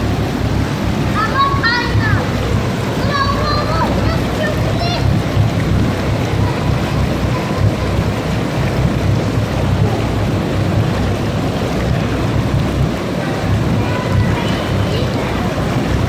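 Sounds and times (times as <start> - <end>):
jacuzzi jets bubbling water: 0.0 - 16.0.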